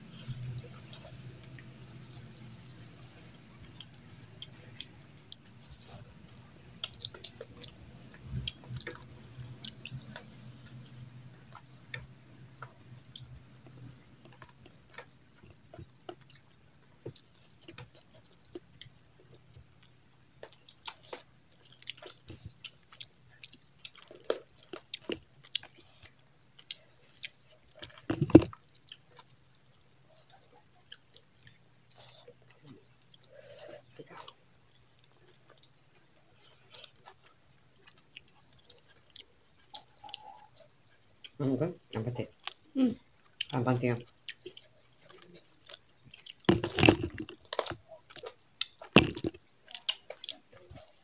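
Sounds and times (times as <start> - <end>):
people chewing food: 0.0 - 51.0.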